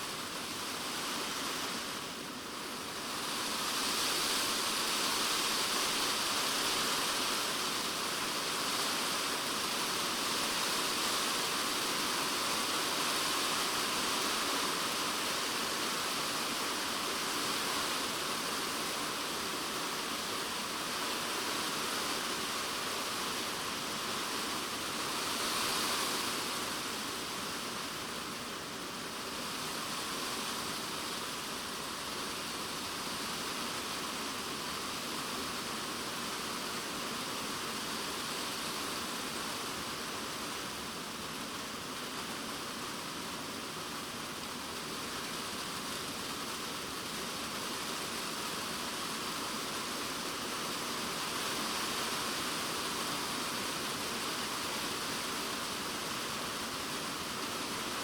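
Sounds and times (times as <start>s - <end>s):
heavy rain drumming on shed roof: 0.2s - 58.0s.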